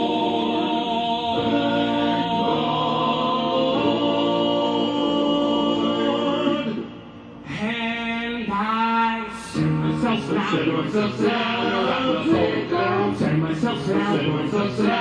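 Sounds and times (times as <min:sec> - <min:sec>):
vocal group singing held chords: 0:00.0 - 0:15.0.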